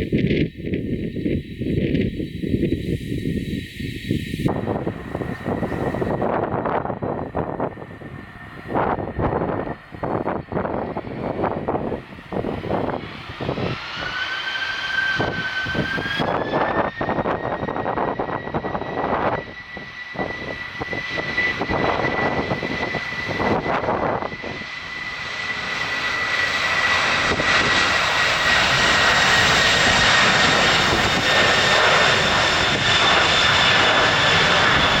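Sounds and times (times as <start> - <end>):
jet engines whining: 0.0 - 35.0.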